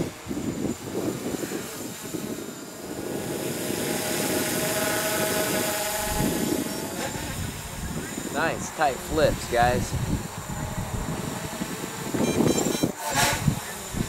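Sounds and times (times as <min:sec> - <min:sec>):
quadcopter propellers whining: 0:00.0 - 0:14.0
wind rumbling over microphone: 0:00.0 - 0:14.0.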